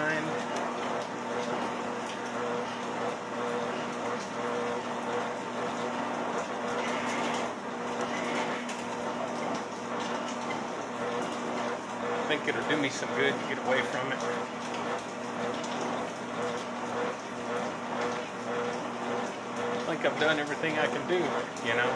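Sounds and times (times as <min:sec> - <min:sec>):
treadmill belt noise: 0:00.0 - 0:21.9
treadmill motor hum: 0:00.0 - 0:21.9.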